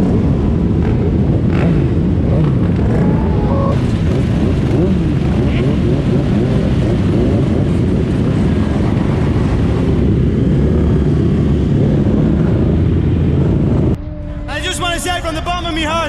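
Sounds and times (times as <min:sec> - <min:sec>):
motorcycles revving: 0:00.0 - 0:14.5.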